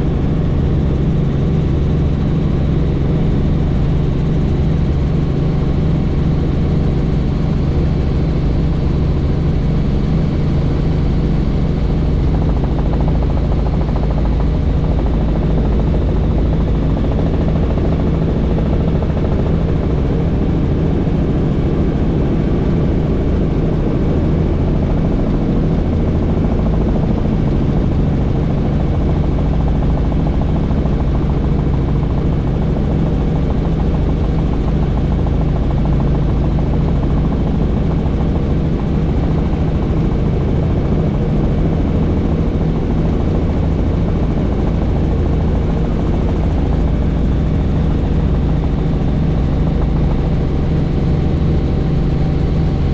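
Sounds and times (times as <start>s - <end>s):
helicopter rotor and engine noise: 0.0s - 52.9s.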